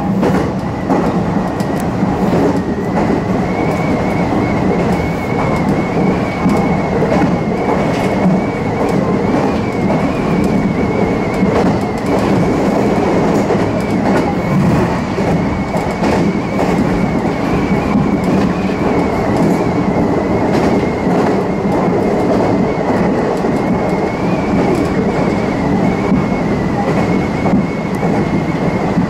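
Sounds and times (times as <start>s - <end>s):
rail-joint clicks: 0.0s - 29.0s
train wheels rumbling on rails: 0.0s - 29.0s.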